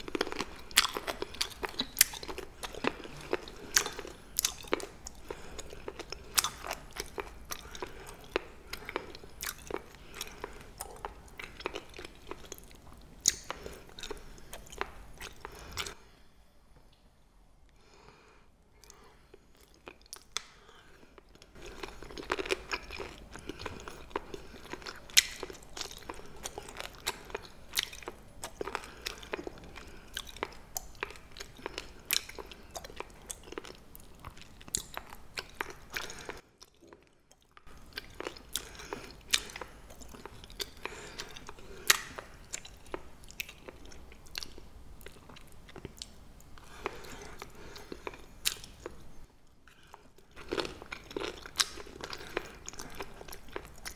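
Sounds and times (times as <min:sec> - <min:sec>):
crunchy chewing: 0:00.0 - 0:16.0, 0:18.8 - 0:53.9.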